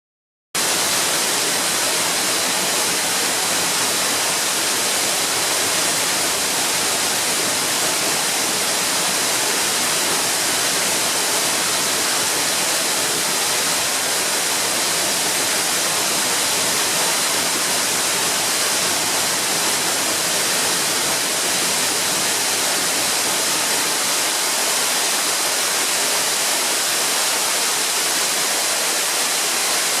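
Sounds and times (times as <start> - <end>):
waterfall rushing: 0.6 - 30.0.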